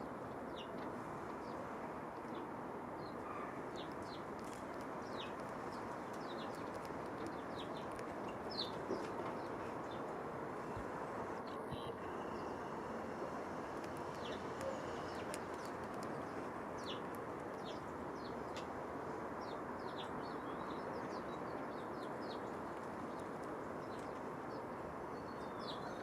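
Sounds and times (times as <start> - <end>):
steady background hiss: 0.0 - 26.0
songbirds chirping: 0.3 - 26.0.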